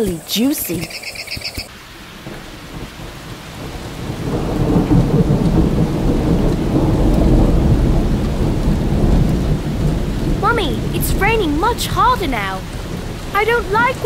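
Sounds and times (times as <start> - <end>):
rain hissing: 0.0 - 14.0
thunder rumbling: 1.9 - 14.0.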